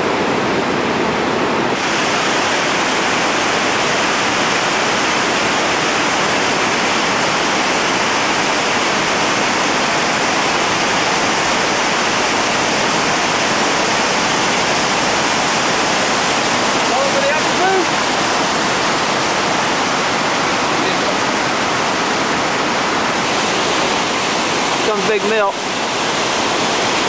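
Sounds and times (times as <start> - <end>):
rapids roaring over rocks: 0.0 - 27.0.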